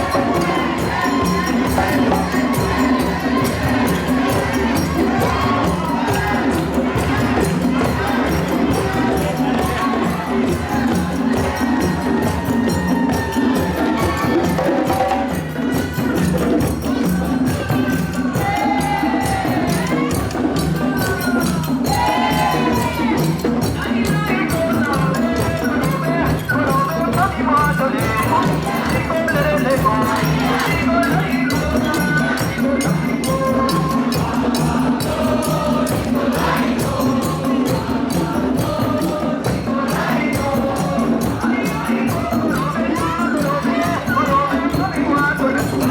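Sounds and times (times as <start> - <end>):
group of voices singing: 0.0 - 45.9
parade percussion ensemble drumming: 0.0 - 45.9
rattling shakers: 0.0 - 45.9.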